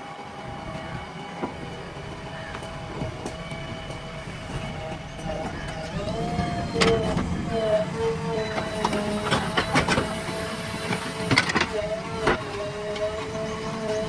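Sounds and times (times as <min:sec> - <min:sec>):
earth-moving machine engine rumble: 0:00.0 - 0:14.0
wavering whine: 0:00.0 - 0:14.0.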